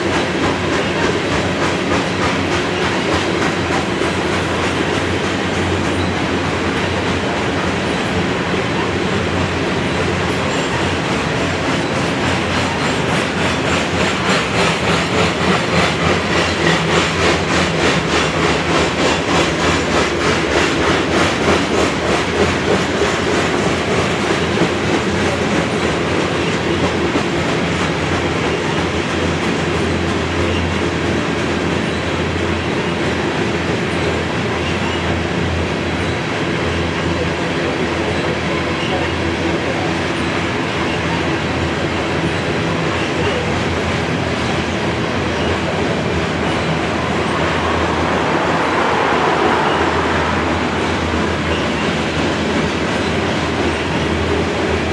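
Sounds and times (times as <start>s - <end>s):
freight train rumbling past: 0.0s - 54.9s.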